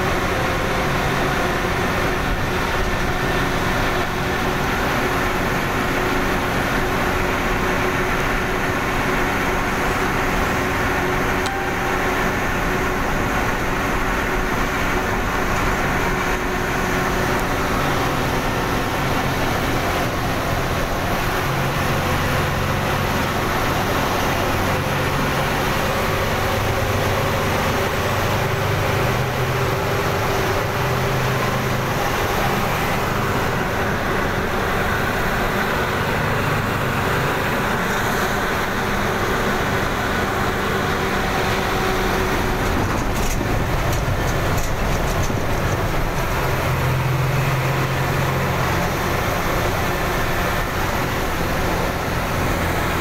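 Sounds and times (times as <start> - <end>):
bus engine droning: 0.0 - 53.0
road noise: 0.0 - 53.0.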